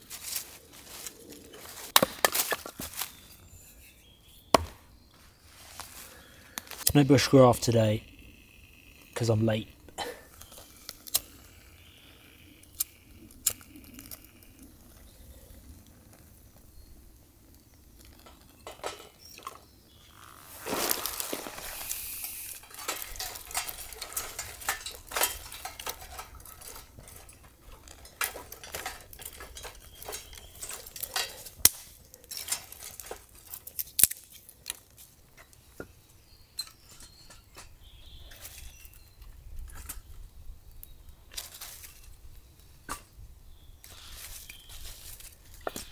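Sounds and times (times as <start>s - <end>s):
twigs rustling and snapping: 0.0s - 3.9s, 4.5s - 16.7s, 17.4s - 35.9s, 36.6s - 43.1s, 43.8s - 45.9s.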